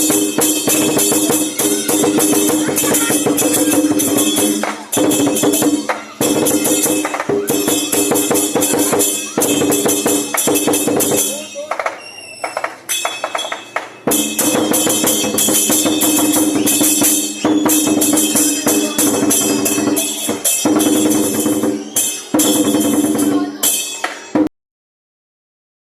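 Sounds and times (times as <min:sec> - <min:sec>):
cymbals crashing: 0:00.0 - 0:24.5
drum beating: 0:00.0 - 0:24.5.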